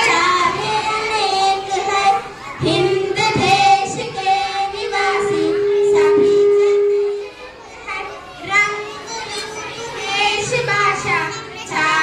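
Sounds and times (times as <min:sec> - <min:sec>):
girls singing through loudspeakers: 0:00.0 - 0:07.4, 0:08.4 - 0:12.0.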